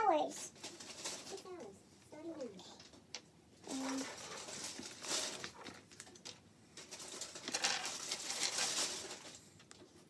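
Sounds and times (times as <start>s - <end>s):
plastic pieces rustling and clicking: 0.6s - 1.7s, 2.8s - 9.9s.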